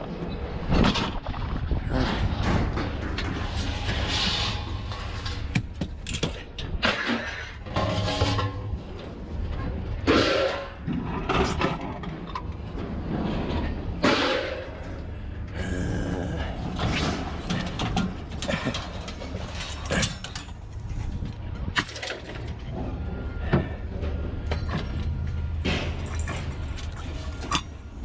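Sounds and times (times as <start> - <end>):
steady low hum: 0.0 - 28.0
scrap metal clanking and rattling: 0.2 - 15.5, 16.4 - 28.0.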